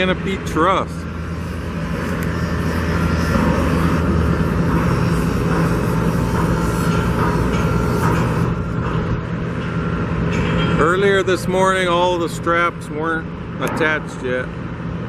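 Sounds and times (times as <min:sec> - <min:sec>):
low engine drone: 0:00.0 - 0:15.0
low rumbling noise: 0:00.0 - 0:15.0.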